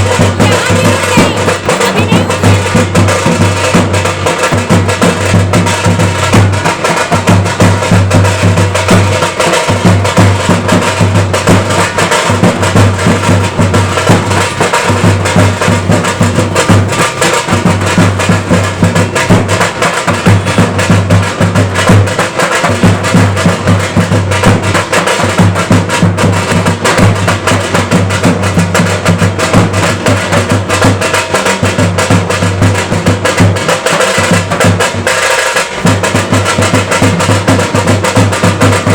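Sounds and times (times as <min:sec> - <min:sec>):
fast loud drumming: 0:00.0 - 0:38.9.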